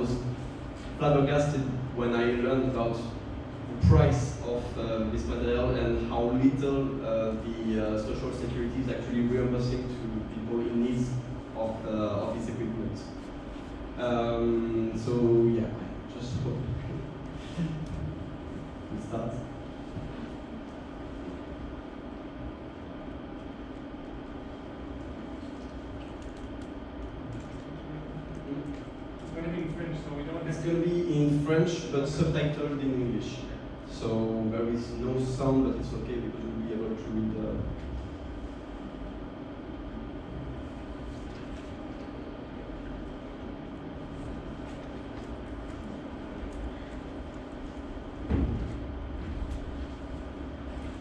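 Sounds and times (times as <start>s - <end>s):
low room hum: 0.0s - 51.0s.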